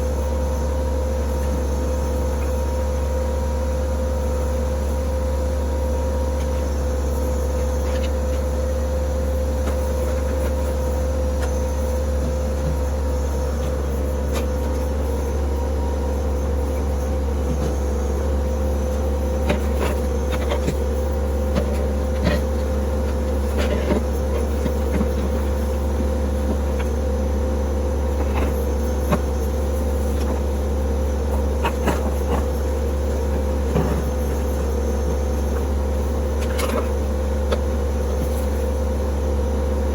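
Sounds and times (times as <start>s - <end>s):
low mechanical drone: 0.0s - 39.9s.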